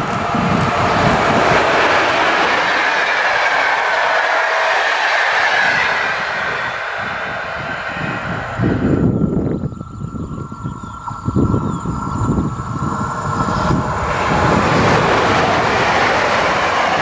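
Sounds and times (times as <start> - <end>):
train wheels clattering on rail: 0.0 - 9.6, 10.9 - 17.0.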